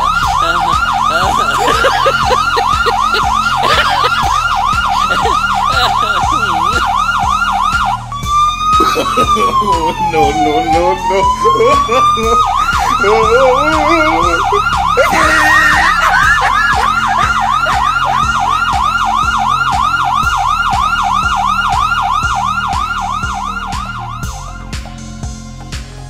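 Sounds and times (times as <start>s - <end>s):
electronic police siren: 0.0s - 25.6s.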